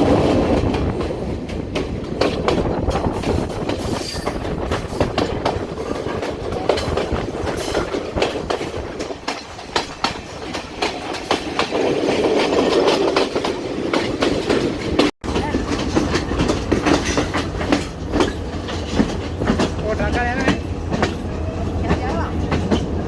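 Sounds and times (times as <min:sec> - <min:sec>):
passenger train rumbling: 0:00.0 - 0:23.0
train wheels clicking and clacking: 0:00.0 - 0:23.0.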